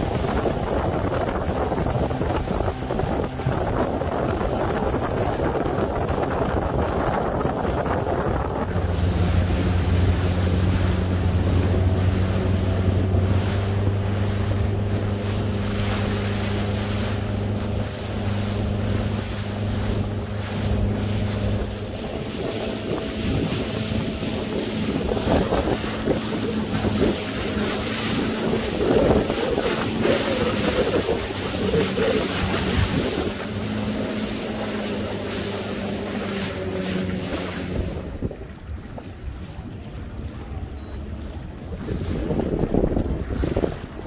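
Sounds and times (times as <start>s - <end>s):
choppy water: 0.0s - 44.0s
motorboat engines humming: 0.0s - 44.0s
wind buffeting microphone: 0.0s - 44.0s.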